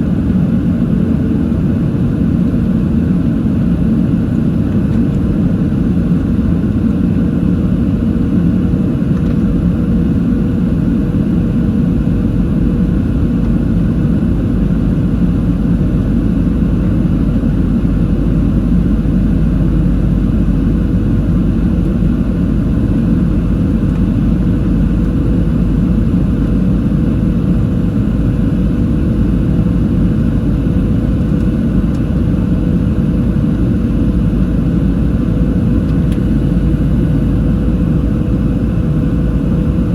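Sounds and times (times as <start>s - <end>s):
jet engine low rumble: 0.0s - 39.9s.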